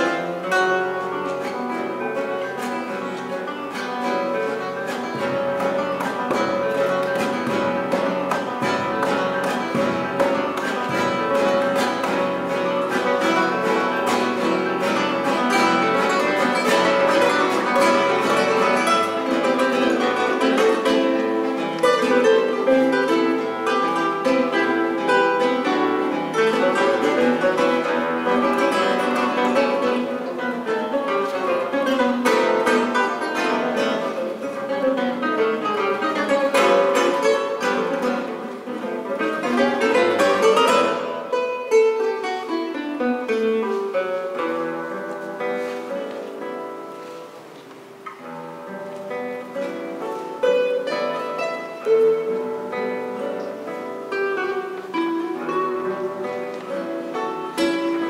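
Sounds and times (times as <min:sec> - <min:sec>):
classical guitars playing: 0:00.0 - 0:58.0.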